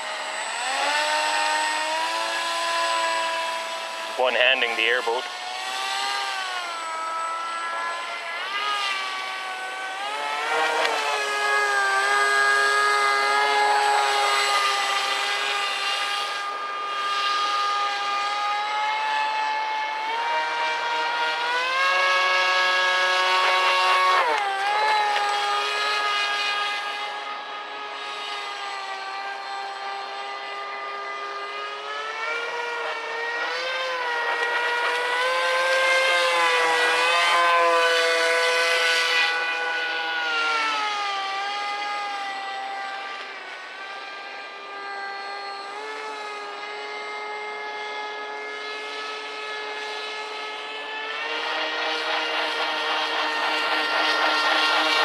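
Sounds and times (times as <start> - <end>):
model airboat motor whining: 0.0 - 55.0.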